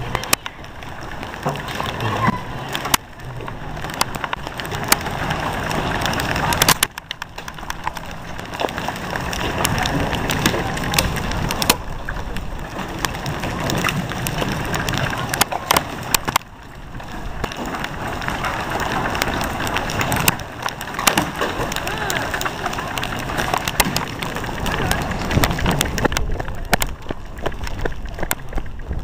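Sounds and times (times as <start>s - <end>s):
sharp crackling clicks: 0.0s - 29.0s
wind buffeting microphone: 0.0s - 29.0s.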